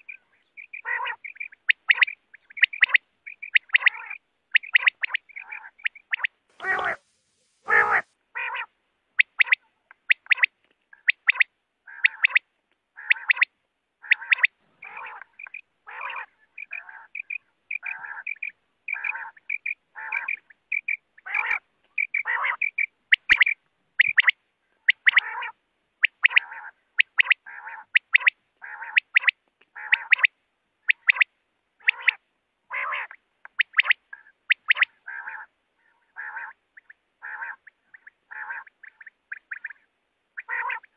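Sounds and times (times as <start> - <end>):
quail calling: 0.0 - 40.9.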